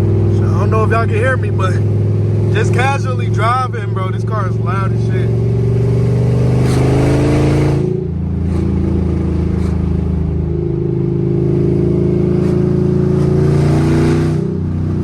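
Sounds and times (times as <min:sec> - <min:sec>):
loud car engine revving: 0:00.0 - 0:15.0.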